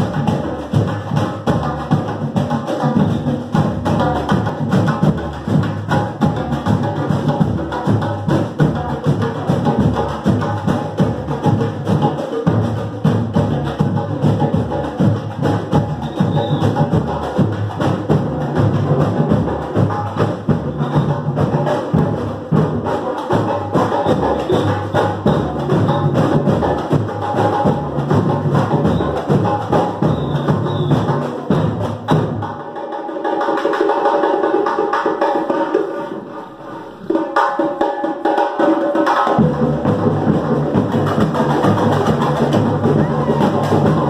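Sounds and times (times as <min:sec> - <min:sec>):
bass drums: 0:00.0 - 0:32.6, 0:39.4 - 0:44.0
samba drumming: 0:00.0 - 0:44.0.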